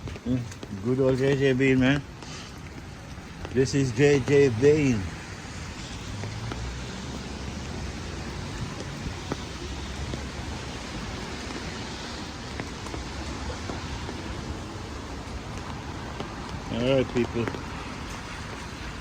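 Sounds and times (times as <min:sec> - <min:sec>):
raindrops ticking: 0:00.0 - 0:19.0
steady rain falling: 0:00.0 - 0:19.0.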